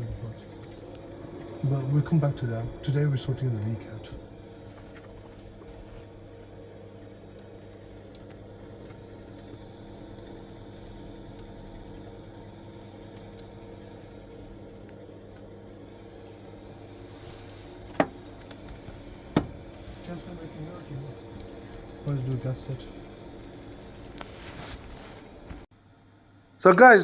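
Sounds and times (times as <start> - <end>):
boiler humming: 0.0 - 25.6.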